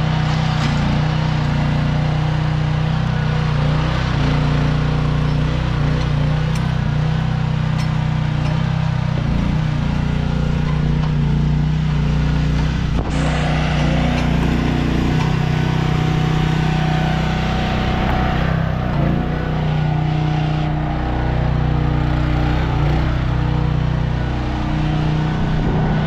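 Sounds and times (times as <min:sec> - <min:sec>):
mini excavator engine running: 0:00.0 - 0:26.0.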